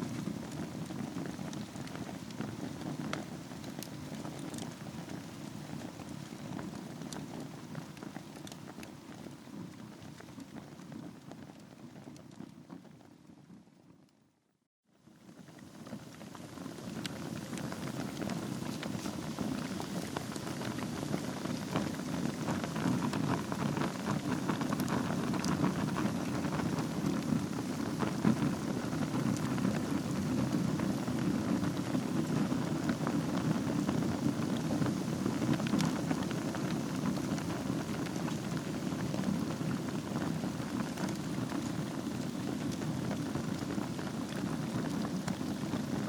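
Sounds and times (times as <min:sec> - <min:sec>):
rush of fire flames: 0:00.0 - 0:13.2, 0:15.2 - 0:46.0
fire crackling and popping: 0:00.0 - 0:14.1, 0:15.2 - 0:46.0.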